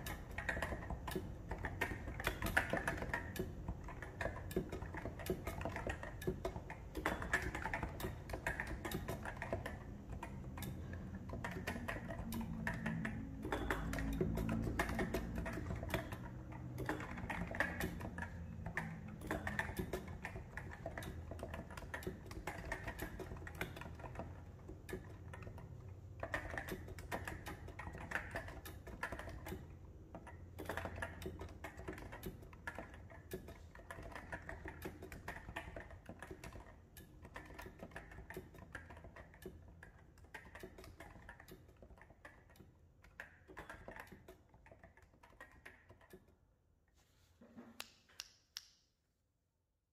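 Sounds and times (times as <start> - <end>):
keyboard keystroke clacks: 0.0 - 46.4.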